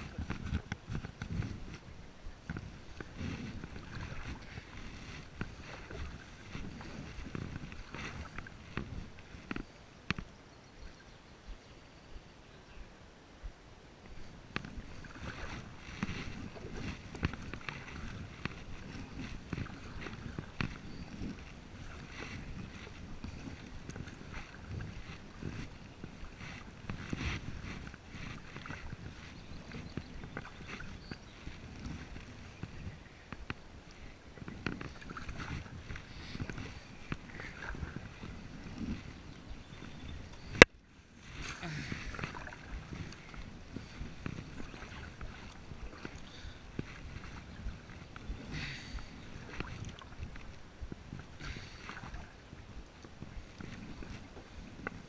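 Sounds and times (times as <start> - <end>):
paddle splashing in water: 0.0 - 10.3, 14.1 - 40.6, 41.2 - 55.0
wind rumble on microphone: 0.0 - 55.0.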